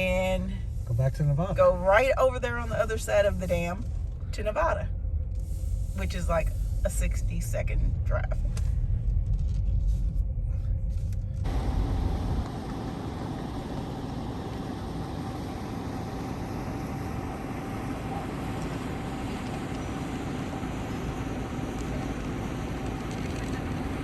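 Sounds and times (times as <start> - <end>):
road and wind hiss: 0.0 - 10.3, 10.9 - 24.0
road and engine rumble: 0.0 - 24.0.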